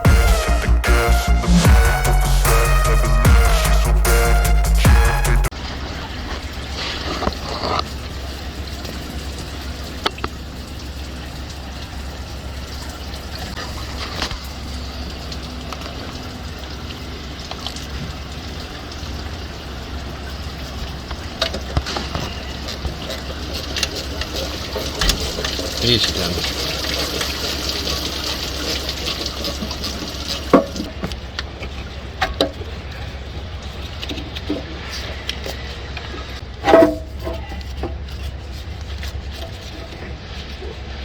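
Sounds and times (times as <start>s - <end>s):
faint running liquid: 5.5s - 41.0s.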